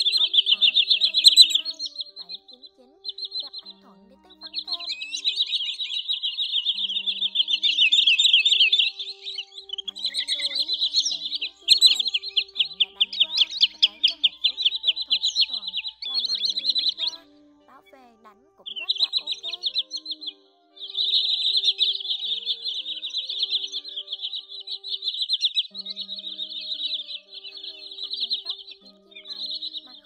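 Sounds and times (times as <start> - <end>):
faint background music: 0.0 - 30.0
sandpipers calling: 0.0 - 30.0.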